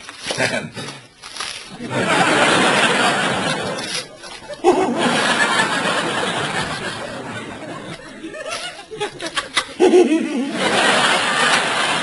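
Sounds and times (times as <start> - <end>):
audience laughter: 1.7 - 12.0.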